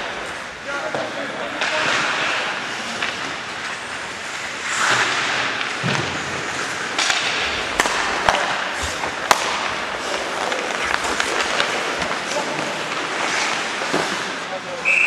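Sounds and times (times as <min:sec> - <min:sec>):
hockey sticks and puck clacking: 0:00.0 - 0:15.0
skate blades scraping ice: 0:00.1 - 0:14.9.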